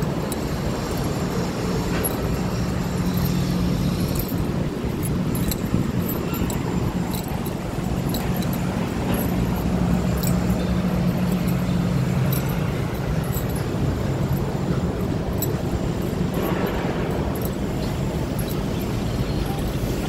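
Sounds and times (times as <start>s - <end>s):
city street traffic: 0.0s - 20.0s
low vehicle engine hum: 0.0s - 20.0s.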